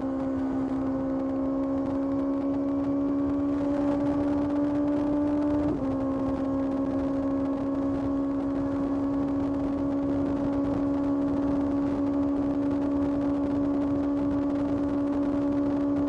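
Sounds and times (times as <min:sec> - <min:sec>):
motorcycle engine running steadily: 0:00.0 - 0:16.0
wind and road noise: 0:00.0 - 0:16.0.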